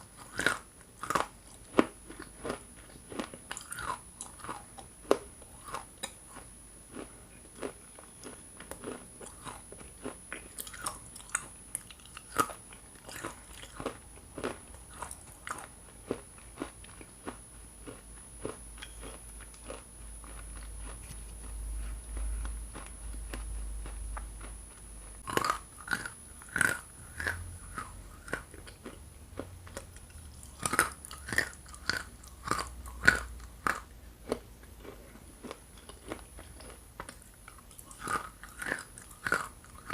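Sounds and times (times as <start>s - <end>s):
crunchy chewing of hard clay: 0.0s - 39.9s.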